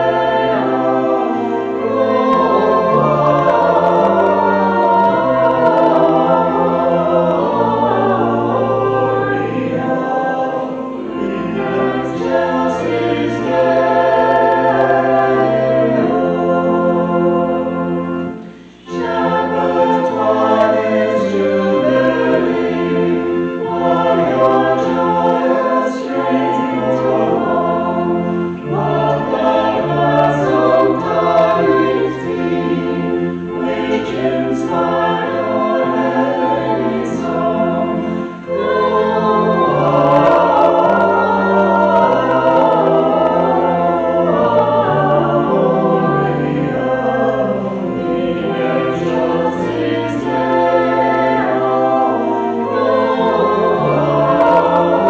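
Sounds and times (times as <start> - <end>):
choir singing a hymn: 0.0 - 55.0
held low accompanying notes: 0.0 - 55.0.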